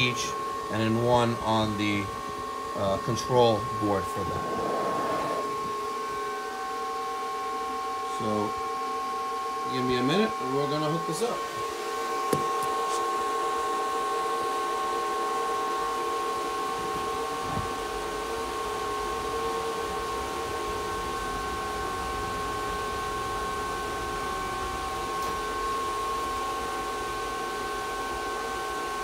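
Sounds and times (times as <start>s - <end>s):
fan whine and hiss: 0.0s - 29.0s.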